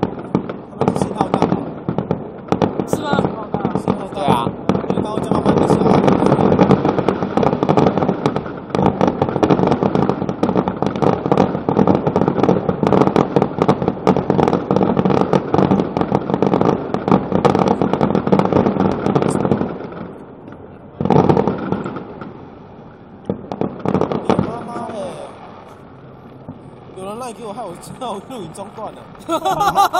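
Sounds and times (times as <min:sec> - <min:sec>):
fireworks bangs and crackling: 0:00.0 - 0:29.9.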